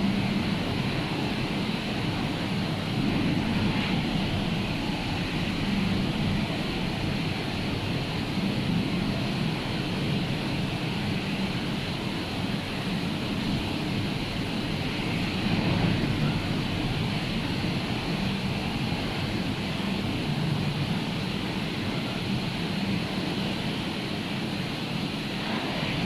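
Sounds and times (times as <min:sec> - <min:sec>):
rough sea surf: 0:00.0 - 0:26.0.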